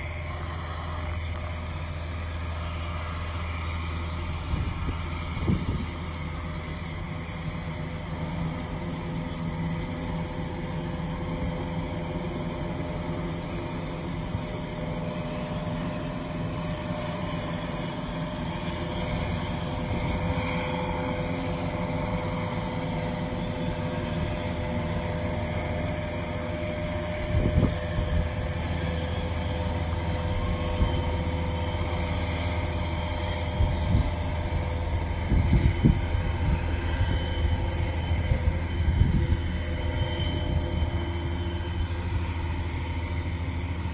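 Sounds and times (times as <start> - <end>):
diesel engines rumbling: 0.0 - 43.9.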